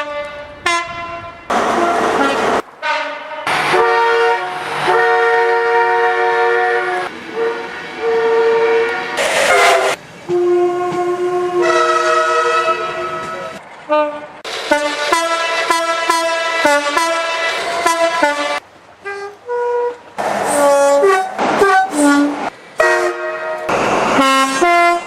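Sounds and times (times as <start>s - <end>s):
train air horn blasts: 0.0s - 25.0s.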